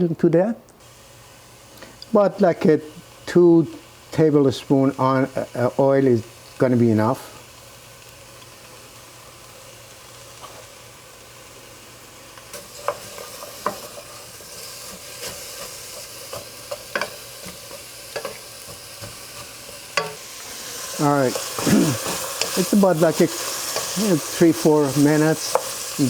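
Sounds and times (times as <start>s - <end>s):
onion sizzling in oil: 0.8s - 26.0s.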